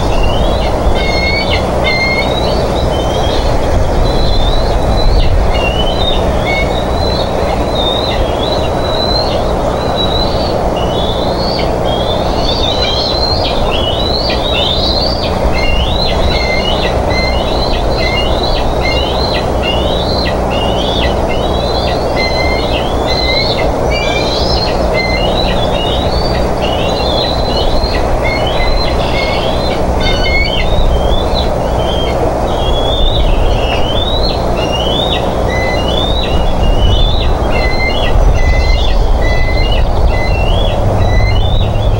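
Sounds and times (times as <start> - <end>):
eaglets squealing chirps: 0.0 - 41.9.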